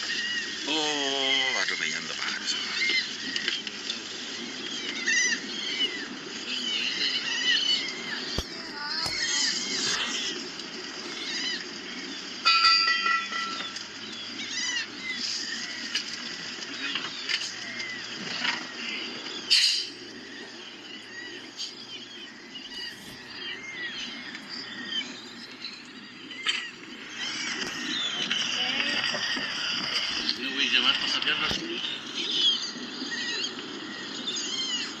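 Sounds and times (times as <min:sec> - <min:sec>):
nesting birds crying: 0:00.0 - 0:35.0.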